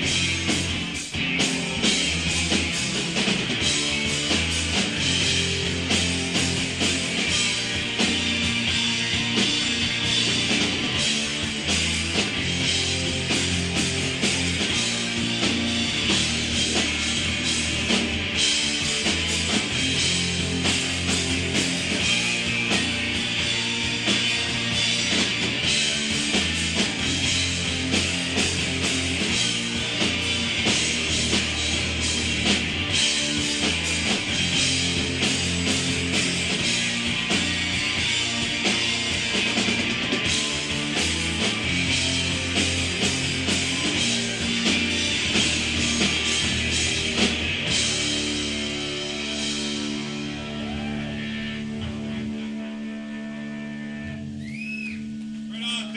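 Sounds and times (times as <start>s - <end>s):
bass guitar: 0.0s - 55.9s
electric guitar: 0.0s - 55.9s.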